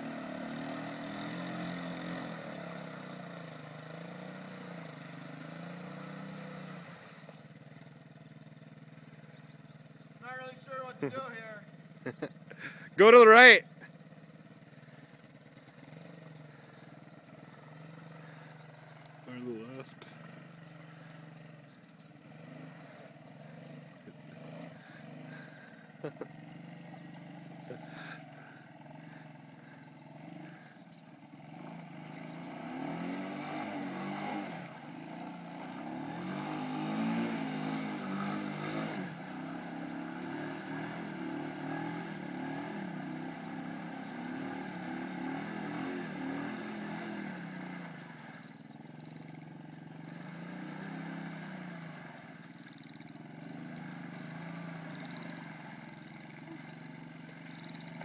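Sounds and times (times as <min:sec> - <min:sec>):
engine revving under load: 0:00.0 - 0:58.0.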